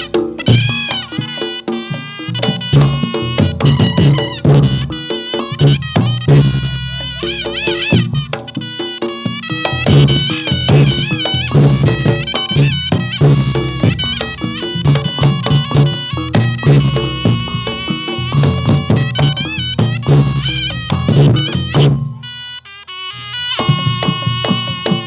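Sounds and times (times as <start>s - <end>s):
drums and pitched gongs: 0.0s - 22.4s, 23.5s - 25.0s
reedy shawm melody: 0.0s - 25.0s.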